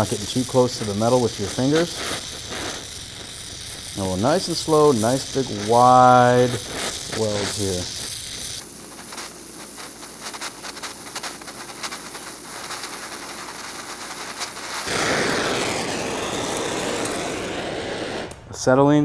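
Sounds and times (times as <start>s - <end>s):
crackle of sparks: 0.0s - 18.6s
welding torch flame hissing: 0.0s - 18.6s.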